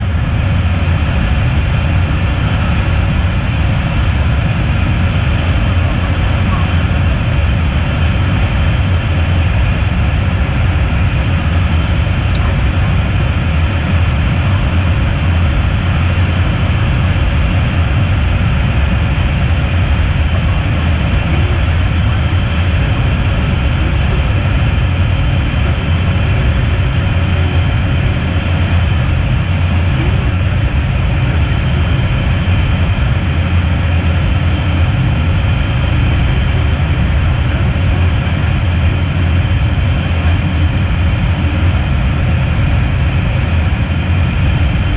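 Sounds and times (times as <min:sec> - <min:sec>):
jet cockpit rumble and airflow hiss: 0:00.0 - 0:44.9.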